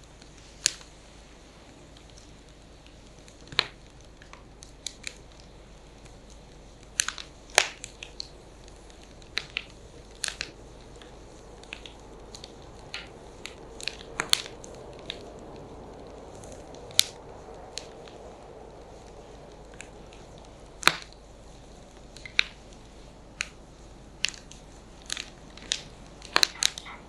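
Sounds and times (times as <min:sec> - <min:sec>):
firewood crackling and popping: 0:00.0 - 0:27.0.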